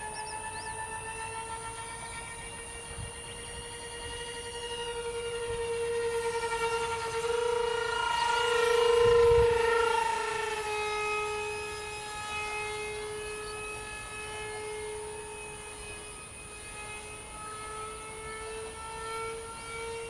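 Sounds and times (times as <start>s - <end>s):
rc jet fans whining: 0.0s - 20.0s.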